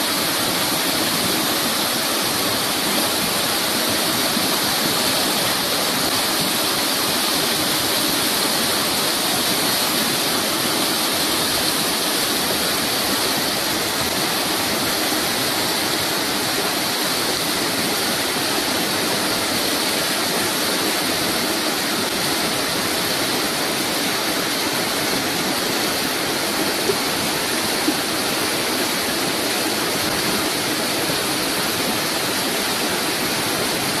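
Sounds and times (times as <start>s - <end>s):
river rapids rushing over rocks: 0.0s - 34.0s.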